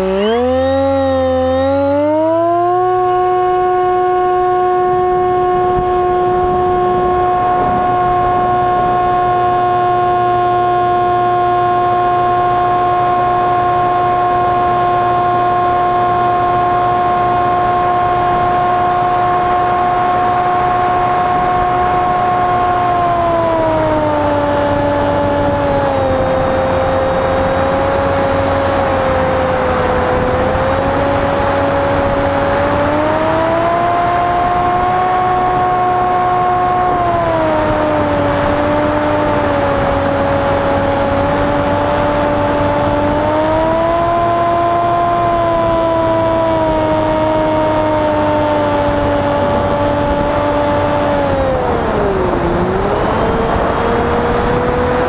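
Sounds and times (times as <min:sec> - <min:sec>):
model airplane motor droning: 0:00.0 - 0:55.0.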